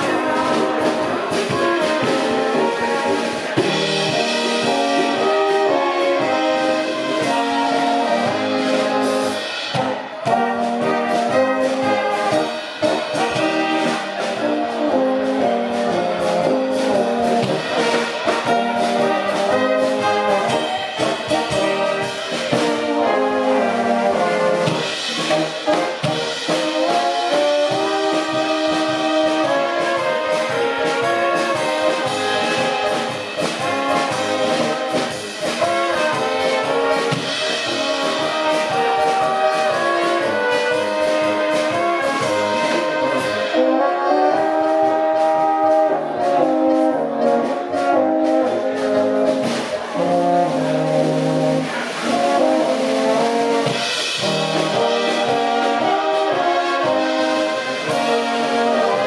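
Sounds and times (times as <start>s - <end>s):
brass band playing: 0.0s - 59.0s
trumpets and tenor horns: 0.0s - 59.0s
tuba bass notes: 0.0s - 59.0s.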